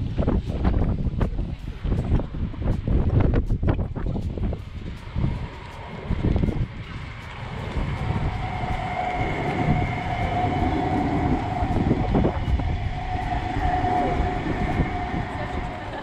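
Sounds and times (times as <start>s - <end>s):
tram rolling past on rails: 0.0s - 16.0s.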